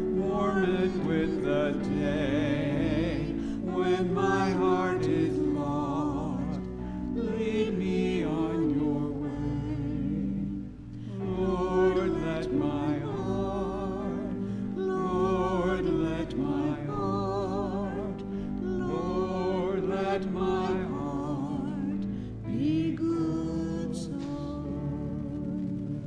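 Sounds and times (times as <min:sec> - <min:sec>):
sustained piano chords: 0:00.0 - 0:26.0
woman singing a hymn: 0:00.0 - 0:26.0.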